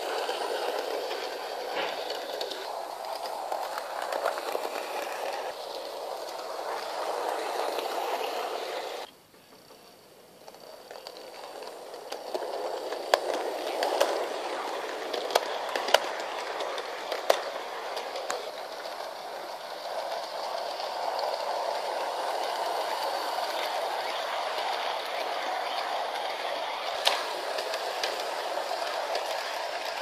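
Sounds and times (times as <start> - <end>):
model train rolling rumble: 0.0 - 30.0
wheels clicking over rail joints: 0.0 - 30.0.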